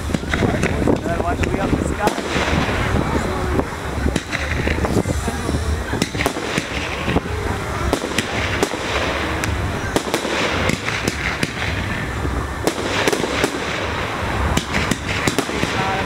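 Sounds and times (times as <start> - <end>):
fireworks bangs and cracks: 0.0 - 16.0
steady background noise: 0.0 - 16.0.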